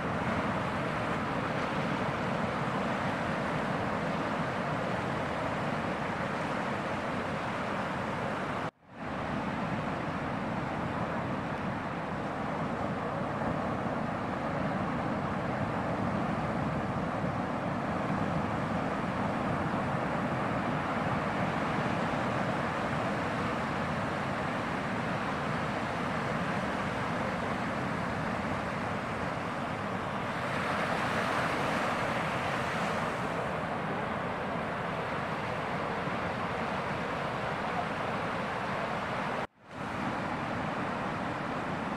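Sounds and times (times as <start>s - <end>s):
ocean surf breaking: 0.0s - 41.9s.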